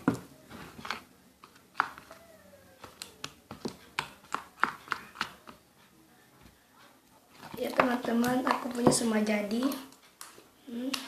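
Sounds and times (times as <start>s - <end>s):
spoon stirring thick slime: 0.0s - 5.7s, 7.3s - 11.0s.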